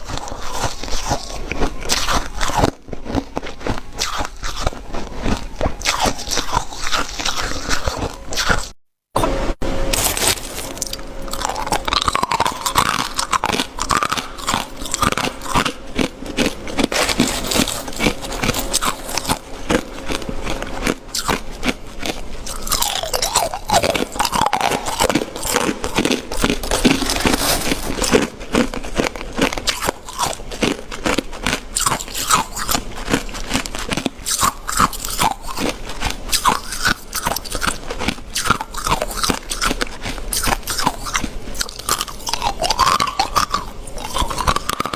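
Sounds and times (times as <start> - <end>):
ice crunching while chewed: 0.0 - 8.8, 9.9 - 44.9.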